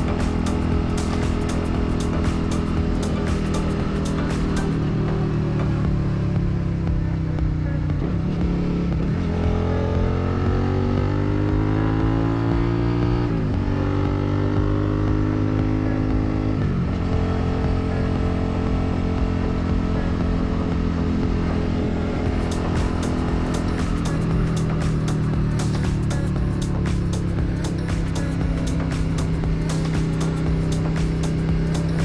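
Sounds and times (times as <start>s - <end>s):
motorcycle engine accelerating: 0.0s - 32.0s
road and wind noise: 0.0s - 32.0s.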